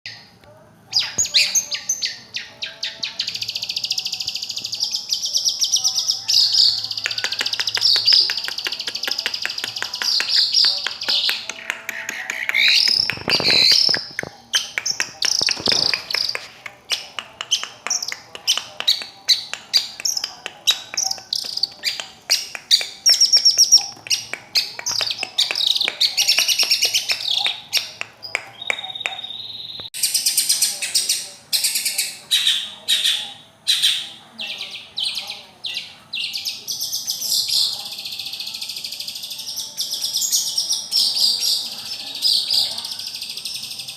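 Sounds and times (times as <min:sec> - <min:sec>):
bird singing chattering notes: 0:00.9 - 0:43.9.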